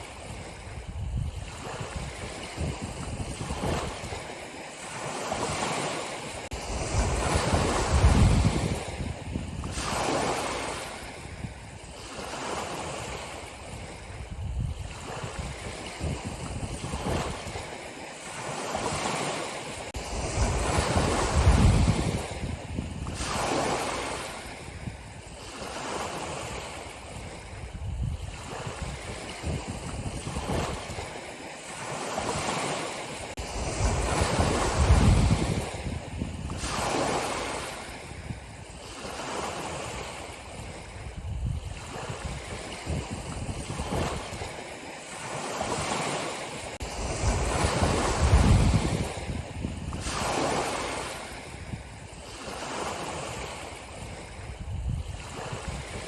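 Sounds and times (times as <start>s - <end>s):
ocean waves breaking on shore: 0.0s - 56.0s
wind buffeting microphone: 0.0s - 56.0s.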